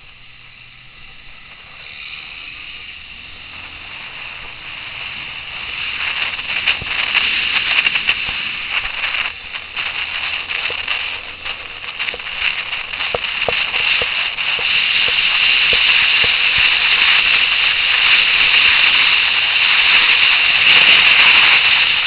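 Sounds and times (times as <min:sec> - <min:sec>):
faint engine drone: 0:00.0 - 0:21.1
wind rushing over microphone: 0:00.0 - 0:22.0.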